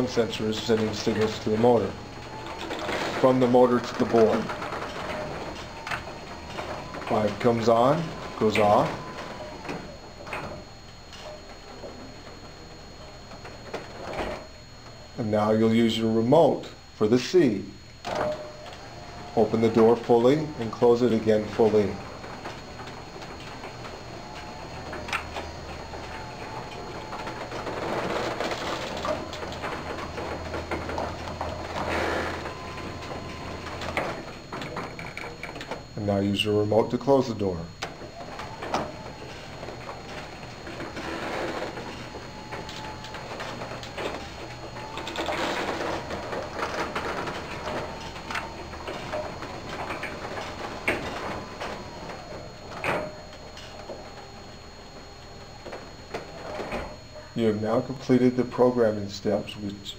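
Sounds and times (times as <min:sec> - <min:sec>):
garage door rattling: 0:00.0 - 0:58.4
garage door opener running: 0:00.0 - 0:59.9.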